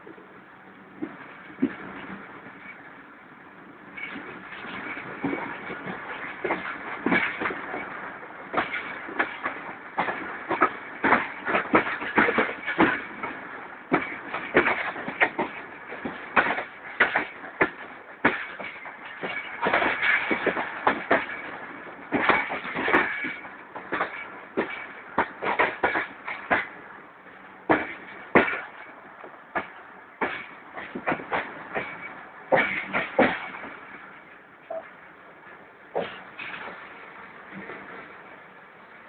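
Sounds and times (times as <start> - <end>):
train running noise: 0.0 - 39.0
wheels clacking over rail joints: 0.0 - 39.0.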